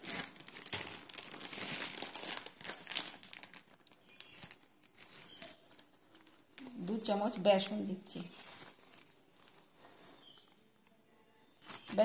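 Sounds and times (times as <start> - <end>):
dry crinkling and rustling: 0.0 - 12.0.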